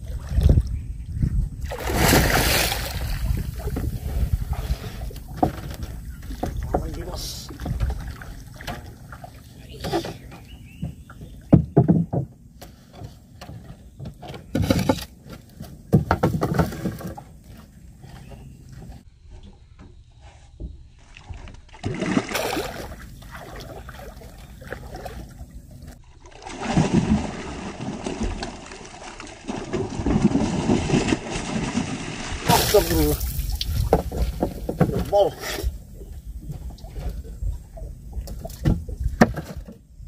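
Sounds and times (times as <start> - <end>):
water splashes and knocks on boat: 1.7 - 19.0, 20.6 - 39.8.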